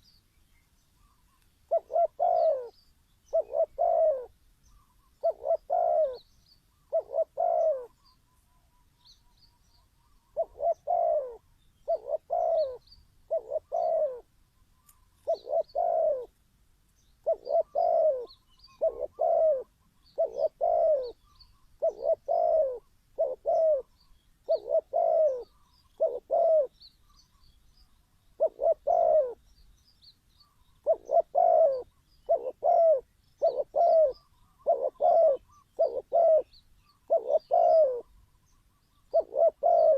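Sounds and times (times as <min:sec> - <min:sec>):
small birds chirping: 0:00.0 - 0:39.9
dove cooing: 0:01.0 - 0:16.4, 0:17.2 - 0:26.9, 0:28.4 - 0:29.5, 0:30.4 - 0:39.9.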